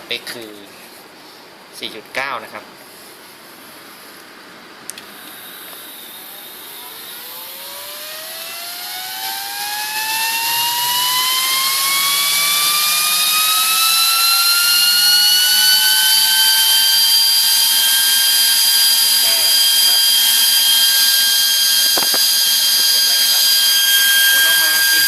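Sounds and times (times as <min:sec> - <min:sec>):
fan whining with air rush: 0:02.7 - 0:25.0.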